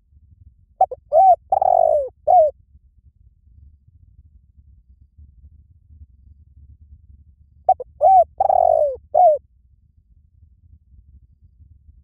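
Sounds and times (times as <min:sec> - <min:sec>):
faint low background rumble: 0:00.0 - 0:12.0.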